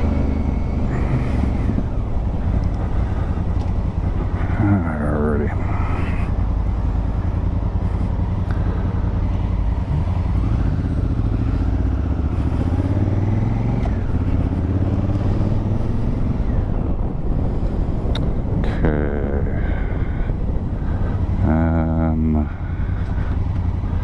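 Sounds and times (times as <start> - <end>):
motorcycle engine running: 0.0 - 24.0
wind and helmet noise: 0.0 - 24.0.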